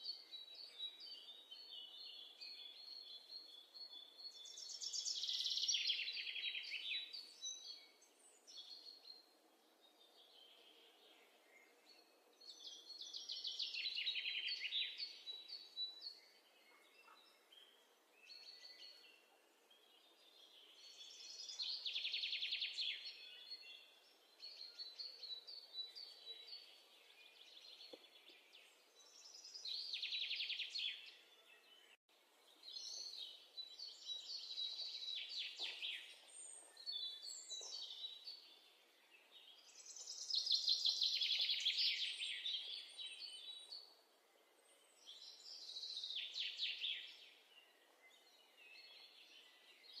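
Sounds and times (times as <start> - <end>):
songbird singing trills: 0.0 - 32.0, 32.6 - 44.0, 44.6 - 50.0.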